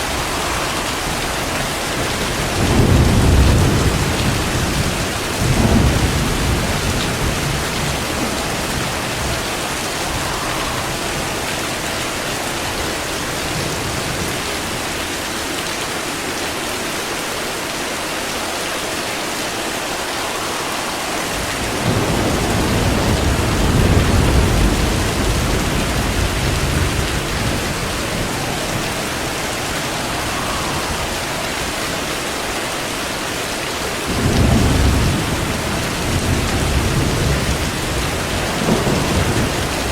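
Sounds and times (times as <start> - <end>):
thunder rumbling: 0.0 - 14.8, 19.8 - 33.2, 34.0 - 39.9
heavy rain: 0.0 - 39.9.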